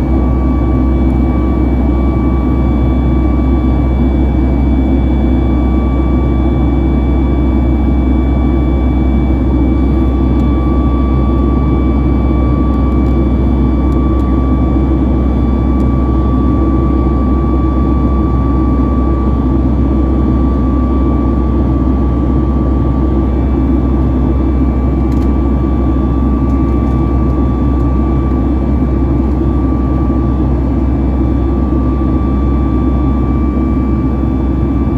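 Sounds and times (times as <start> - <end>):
engine fan whine: 0.0 - 34.9
jet engine rumble in cabin: 0.0 - 34.9.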